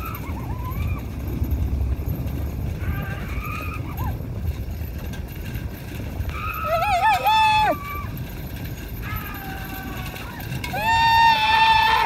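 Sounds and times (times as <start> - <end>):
vehicle rumble: 0.0 - 12.0
wind: 0.0 - 12.0.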